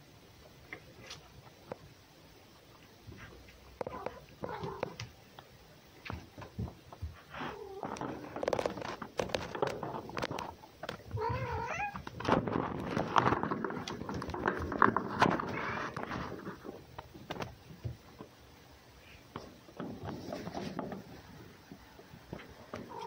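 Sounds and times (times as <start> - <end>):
paws scuffling and scratching: 3.0 - 18.4, 19.2 - 23.0.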